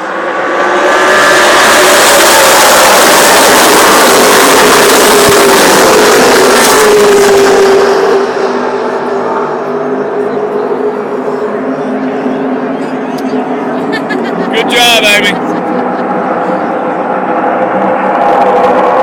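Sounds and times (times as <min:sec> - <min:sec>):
race truck engines roaring past: 0:00.0 - 0:19.0.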